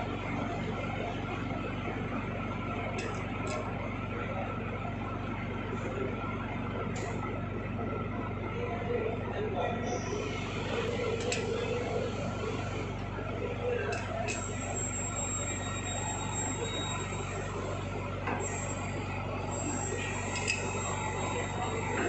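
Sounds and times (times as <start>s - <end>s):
electric machinery hum: 0.0s - 22.0s.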